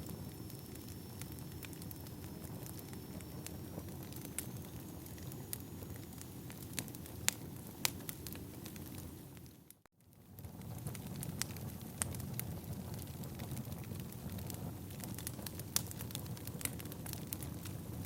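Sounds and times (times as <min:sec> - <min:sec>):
firewood popping: 0:00.0 - 0:09.5, 0:10.9 - 0:17.8
wood fire crackling: 0:00.0 - 0:18.0.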